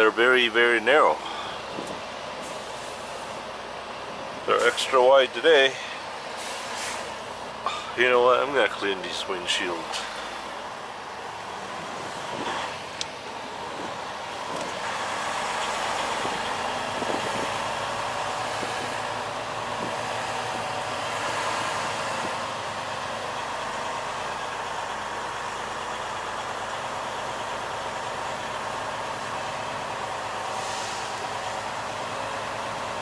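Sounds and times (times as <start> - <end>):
truck diesel engine from inside cab: 0.0 - 33.0.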